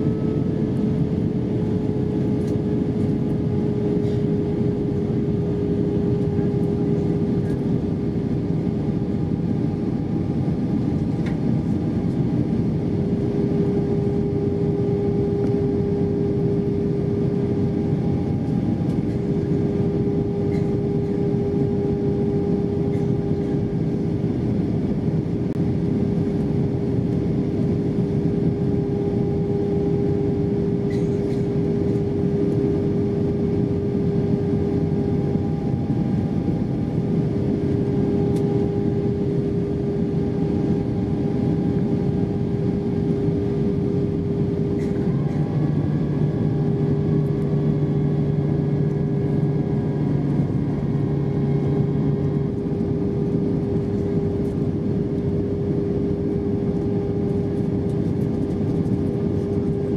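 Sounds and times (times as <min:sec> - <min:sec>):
jet engines droning: 0:00.0 - 0:59.9
steady hum: 0:00.0 - 0:59.9.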